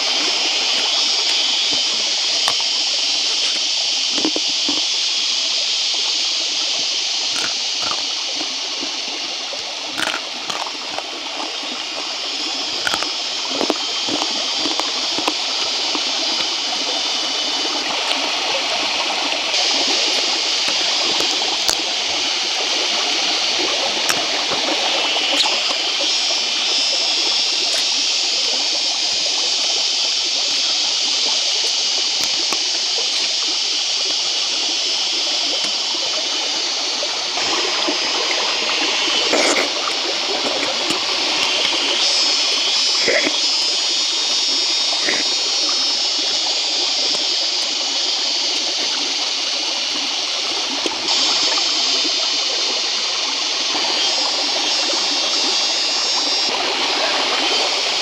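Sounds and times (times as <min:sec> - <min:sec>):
stream rushing over stones: 0:00.0 - 0:58.0.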